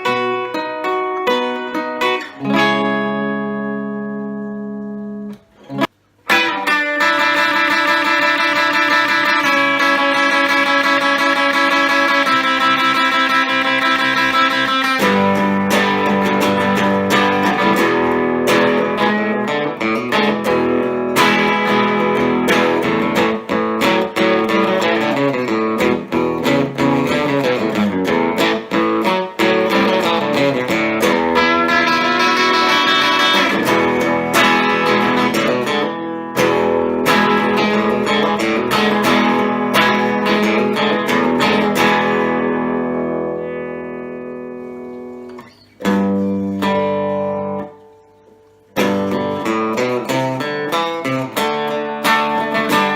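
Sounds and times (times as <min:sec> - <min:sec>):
electric guitar single notes: 0:00.0 - 0:52.9
electric guitar strummed chords: 0:00.0 - 0:52.9.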